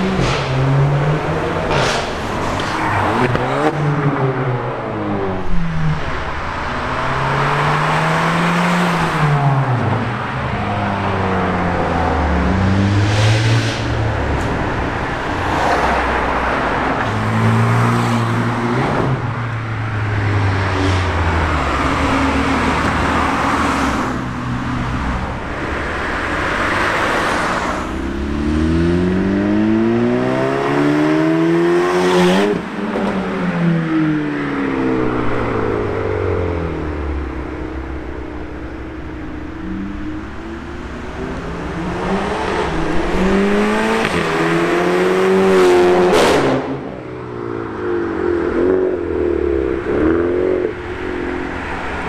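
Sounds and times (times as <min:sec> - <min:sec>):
cars accelerating past: 0:00.0 - 0:52.0.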